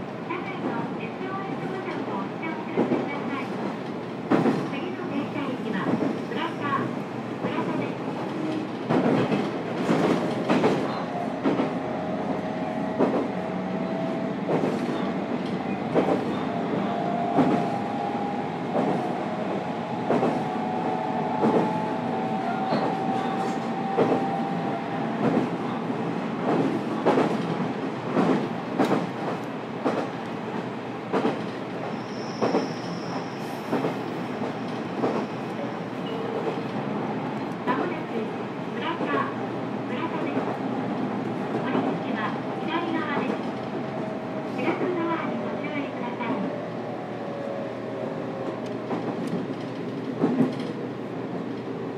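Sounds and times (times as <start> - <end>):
steady train rumble: 0.0 - 51.9.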